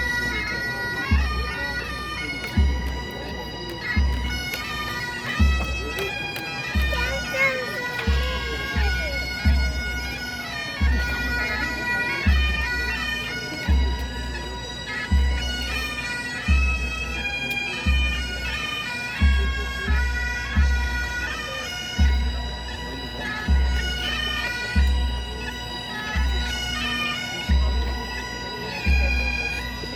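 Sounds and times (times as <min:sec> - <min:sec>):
bagpipes playing melody: 0:00.0 - 0:29.9.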